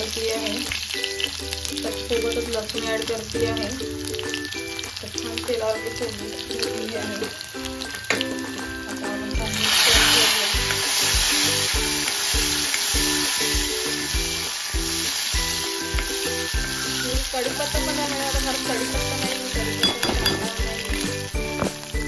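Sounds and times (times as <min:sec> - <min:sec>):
background music with steady beat: 0:00.0 - 0:22.0
spices sizzling in hot oil: 0:00.0 - 0:22.0.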